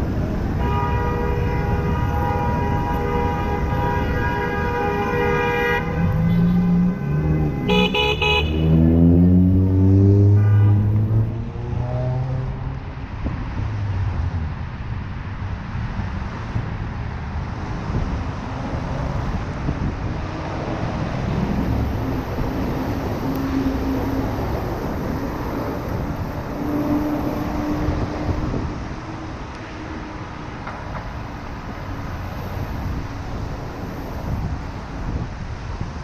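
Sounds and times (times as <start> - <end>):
city traffic rumble: 0.0 - 36.0.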